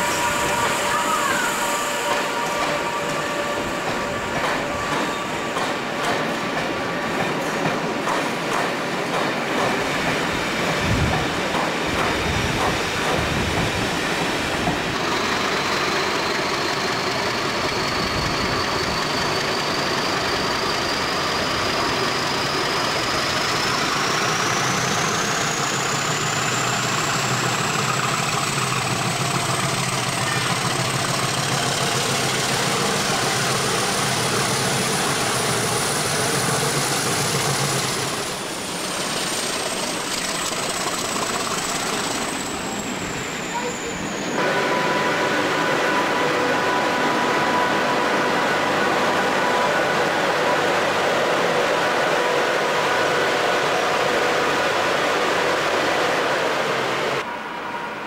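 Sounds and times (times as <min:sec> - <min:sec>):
diesel locomotive engine running: 0:09.1 - 0:58.0.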